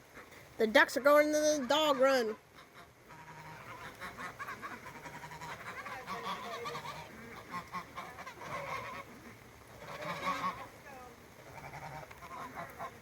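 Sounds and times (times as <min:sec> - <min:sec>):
ducks calling: 0:00.0 - 0:13.0.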